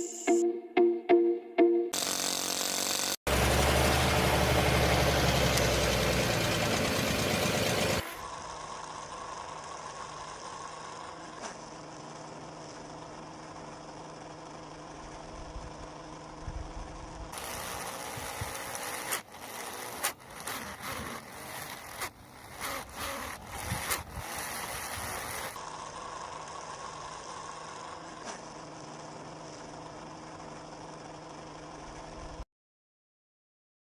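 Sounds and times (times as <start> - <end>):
small motor humming: 1.9 - 32.4.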